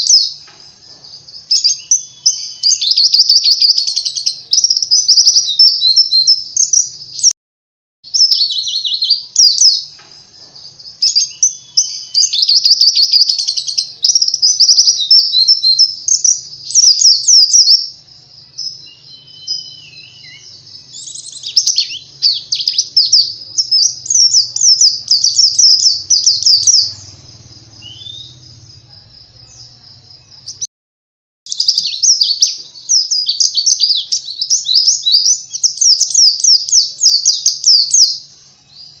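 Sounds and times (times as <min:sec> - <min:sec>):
high-pitched bird twittering: 0:00.0 - 0:07.3, 0:08.1 - 0:10.0, 0:10.7 - 0:28.6, 0:31.5 - 0:39.0.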